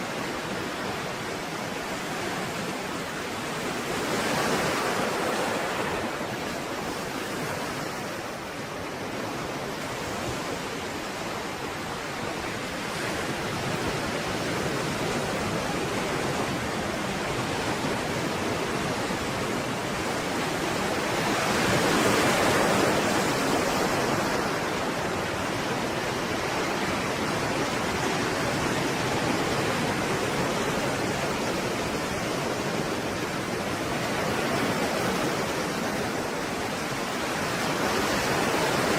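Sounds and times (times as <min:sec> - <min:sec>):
stormy sea waves breaking: 0:00.0 - 0:38.9.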